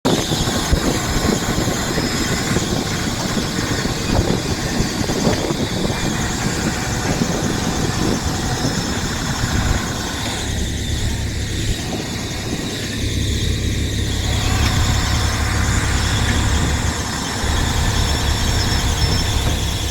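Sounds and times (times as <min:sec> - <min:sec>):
boat engine rumbling: 0:00.0 - 0:19.9.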